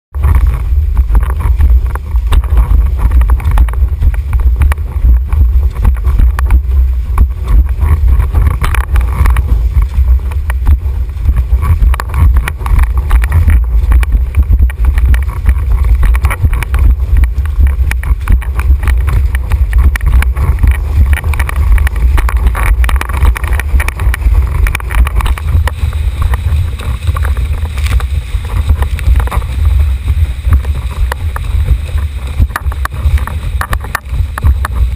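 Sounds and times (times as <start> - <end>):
wind buffeting microphone: 0.1 - 34.9
rushing water: 0.2 - 34.9.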